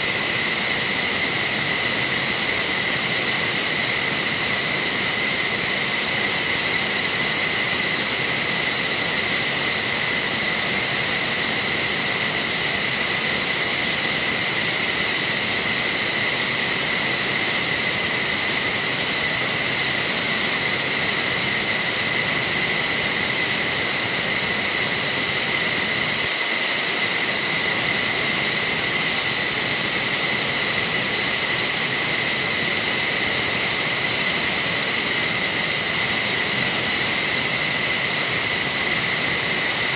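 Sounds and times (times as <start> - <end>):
jet engine high whine: 0.0 - 39.9.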